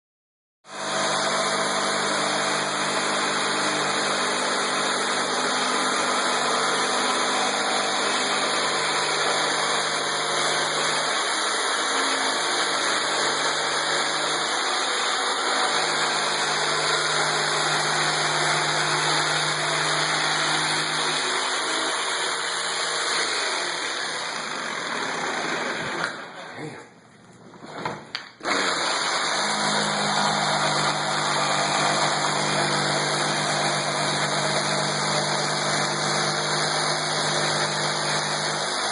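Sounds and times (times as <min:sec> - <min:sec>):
electric jigsaw running: 0:00.7 - 0:26.4, 0:28.4 - 0:38.9.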